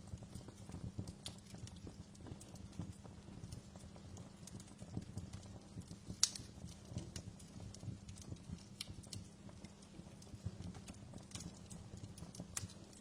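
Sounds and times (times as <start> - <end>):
burning logs rumbling: 0.0 - 13.0
wood fire crackling and popping: 0.0 - 13.0.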